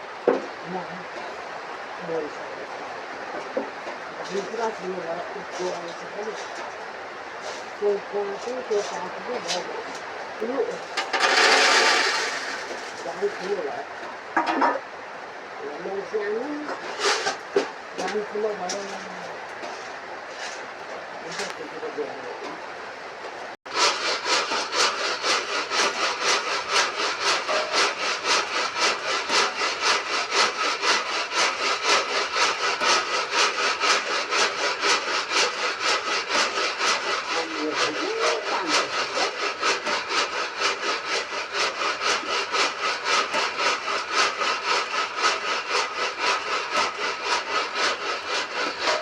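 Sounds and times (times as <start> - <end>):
kernels stirred and scraped in pan: 0.3 - 14.8, 15.7 - 22.6, 23.7 - 49.0.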